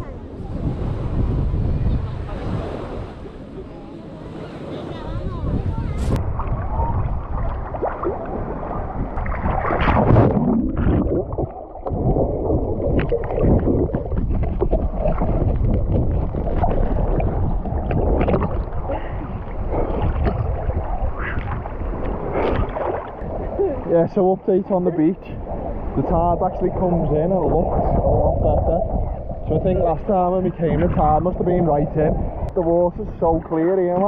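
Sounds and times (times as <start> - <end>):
wind buffeting microphone: 0.0 - 34.0
sea water sloshing and lapping: 4.5 - 34.0.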